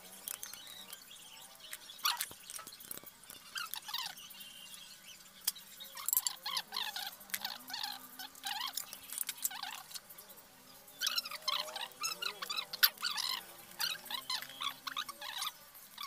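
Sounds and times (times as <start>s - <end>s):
high chirping calls: 0.0s - 16.0s.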